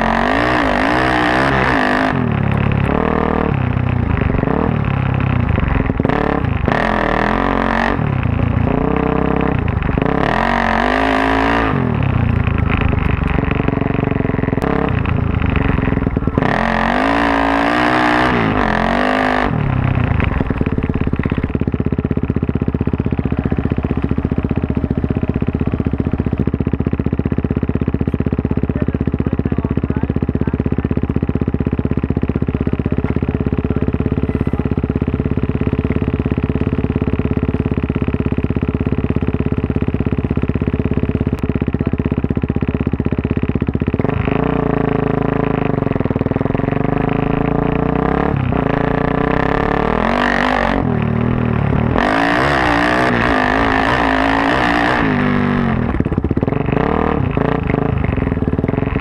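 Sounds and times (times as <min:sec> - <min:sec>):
dirt bike engine revving: 0:00.0 - 0:42.0, 0:42.8 - 0:59.0.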